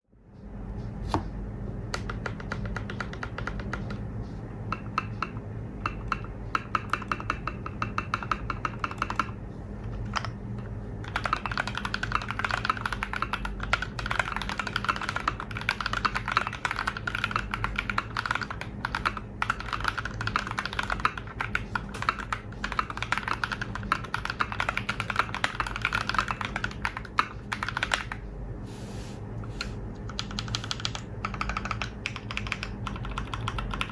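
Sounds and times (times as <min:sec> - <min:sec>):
mechanical keyboard typing: 0:01.9 - 0:04.0, 0:04.7 - 0:09.4, 0:11.0 - 0:28.2, 0:30.1 - 0:33.9.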